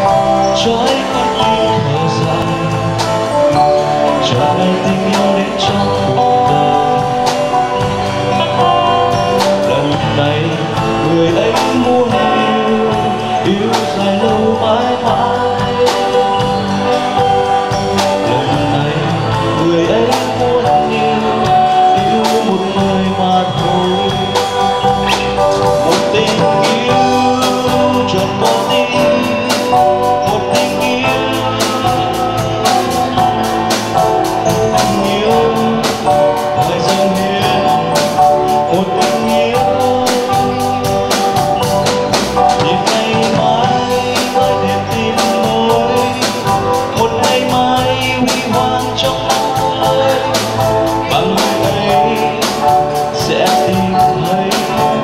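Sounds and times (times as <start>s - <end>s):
live band playing: 0.0s - 55.0s
person singing: 0.0s - 55.0s.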